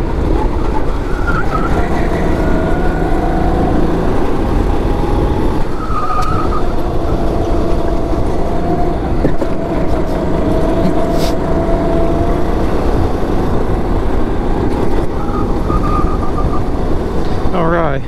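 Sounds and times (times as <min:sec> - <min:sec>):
wind rumble on microphone: 0:00.0 - 0:17.5
go-kart engine running: 0:00.0 - 0:18.0.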